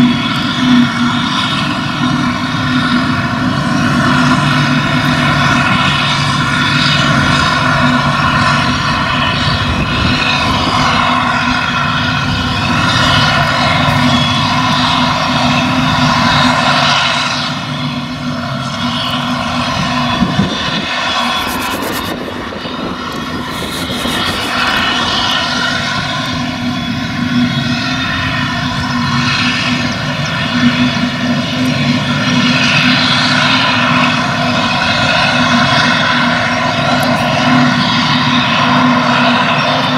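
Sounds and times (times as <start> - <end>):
harvester engine drone: 0.0 - 39.9
high whine of chopper: 0.0 - 39.9.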